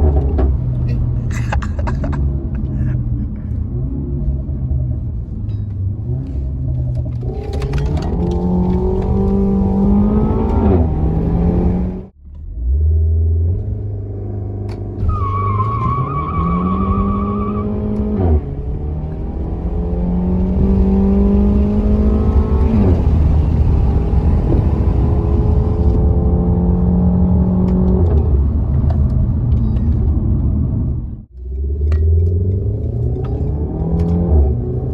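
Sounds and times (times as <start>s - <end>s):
car engine accelerating hard: 6.1s - 34.9s.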